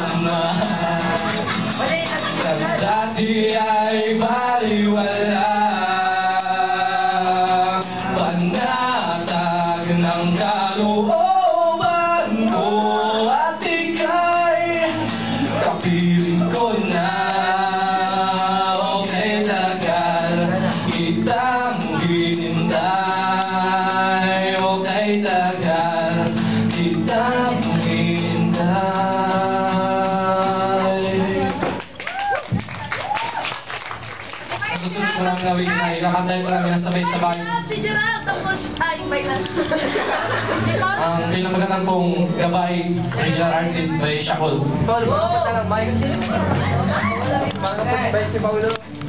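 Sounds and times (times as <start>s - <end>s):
man singing: 0.0s - 31.8s, 34.6s - 37.7s, 40.0s - 48.8s
acoustic guitar: 0.0s - 49.0s.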